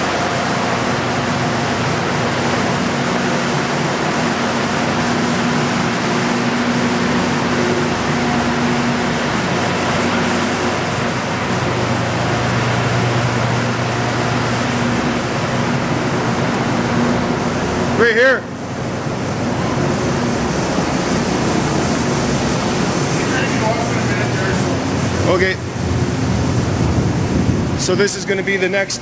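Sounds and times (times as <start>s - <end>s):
constant machinery hum: 0.0s - 29.0s
deep hum: 0.0s - 29.0s
ventilation rush: 0.0s - 29.0s.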